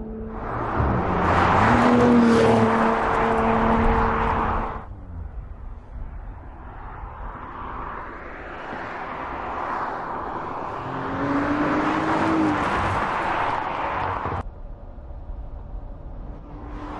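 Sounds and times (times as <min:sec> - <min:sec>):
road noise: 0:00.0 - 0:16.9.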